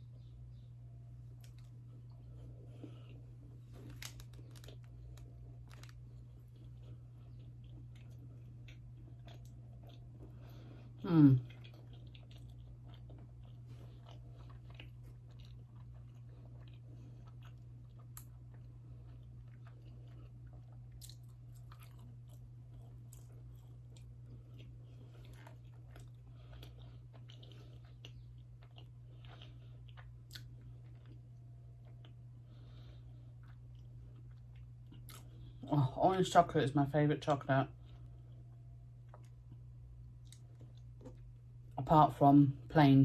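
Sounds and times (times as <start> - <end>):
low electrical hum: 0.0 - 43.0
person chewing dessert: 0.1 - 35.7, 37.7 - 41.8.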